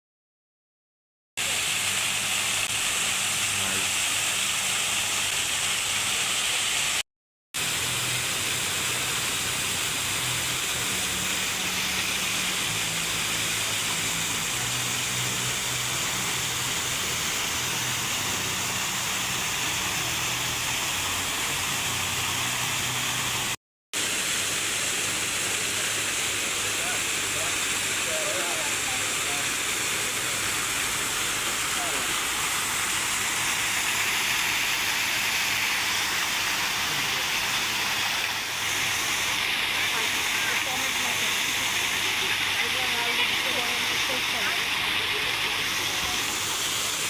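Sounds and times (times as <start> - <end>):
rush of falling water: 1.4 - 7.0, 7.6 - 47.0.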